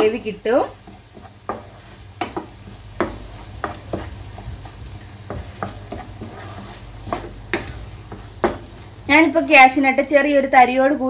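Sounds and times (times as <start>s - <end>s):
utensil scraping a pan: 0.0s - 9.0s
light sizzle: 0.0s - 11.0s
steady low hum: 0.0s - 11.0s.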